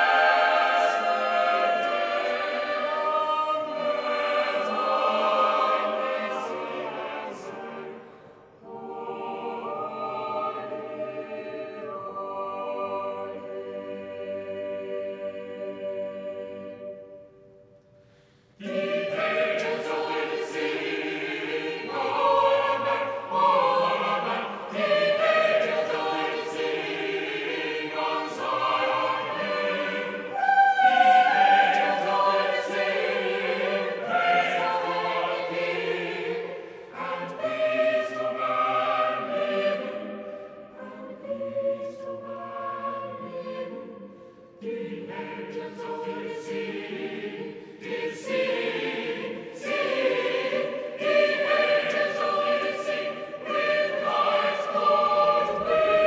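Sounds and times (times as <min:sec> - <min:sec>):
choir singing slow held chords: 0:00.0 - 0:56.0.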